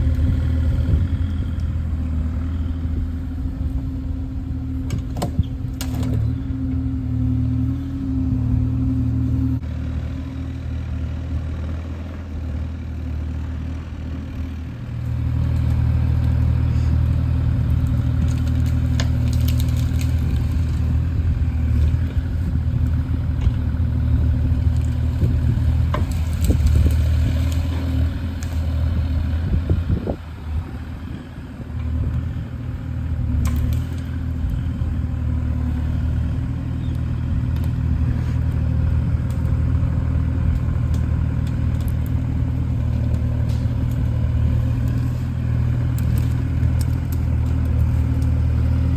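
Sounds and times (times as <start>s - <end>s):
excavator diesel engine under load: 0.0s - 48.9s.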